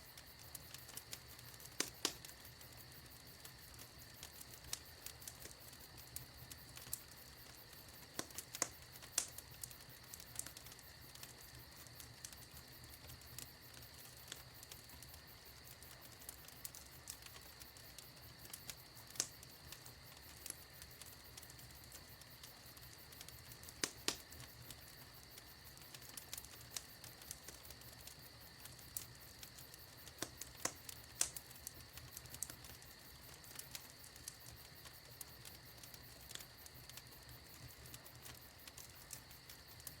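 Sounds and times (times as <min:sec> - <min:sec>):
faint steady hiss: 0:00.0 - 0:40.0
wood fire crackling and popping: 0:00.0 - 0:40.0.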